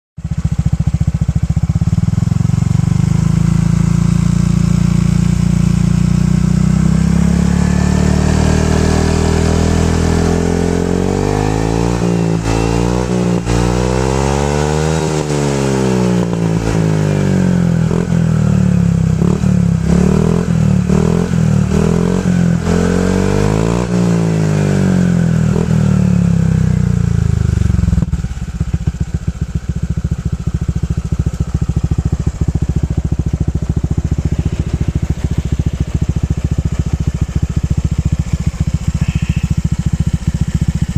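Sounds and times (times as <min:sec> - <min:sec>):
scooter engine idling and revving: 0:00.2 - 0:40.9.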